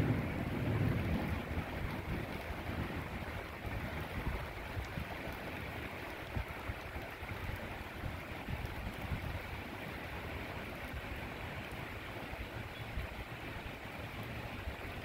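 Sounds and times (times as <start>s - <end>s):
steady rain falling: 0.0s - 15.0s
wind rumbling on microphone: 0.0s - 15.0s.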